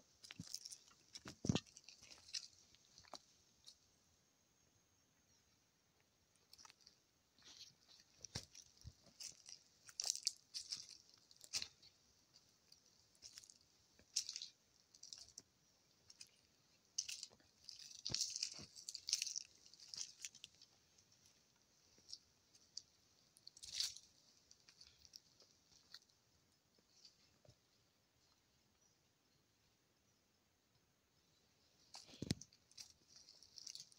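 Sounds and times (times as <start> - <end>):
faint crunching and rustling: 0.0 - 4.0, 6.0 - 28.9, 31.2 - 33.9.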